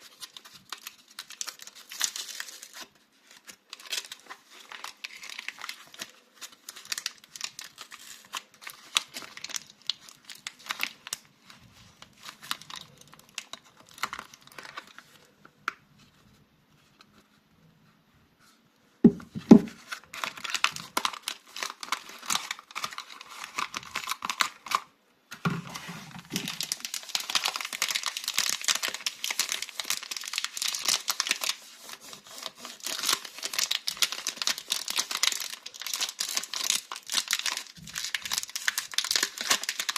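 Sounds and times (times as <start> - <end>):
soap wrappers crinkling: 0.0 - 15.9, 19.4 - 39.9.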